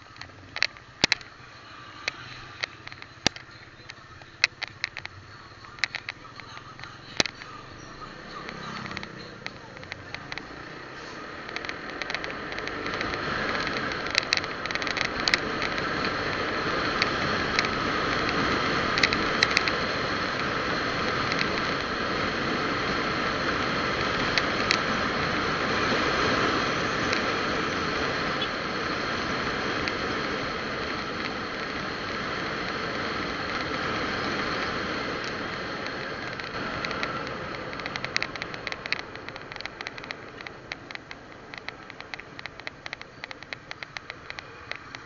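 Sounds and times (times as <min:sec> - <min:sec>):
sharp rattling clicks: 0:00.0 - 0:01.4, 0:02.0 - 0:45.0
vehicle road and engine noise: 0:00.0 - 0:45.0.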